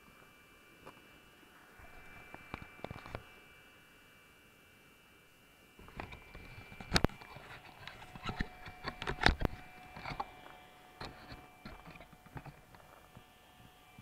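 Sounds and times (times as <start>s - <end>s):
fan whine: 0.0s - 14.0s.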